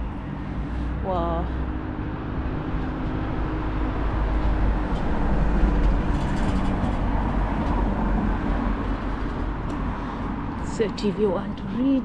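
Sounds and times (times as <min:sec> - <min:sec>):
vehicle passing on road: 0:00.0 - 0:11.8.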